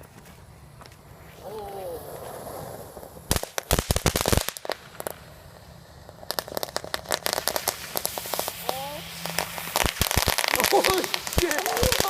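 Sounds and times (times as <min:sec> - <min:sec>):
firecrackers popping: 0:00.0 - 0:12.0.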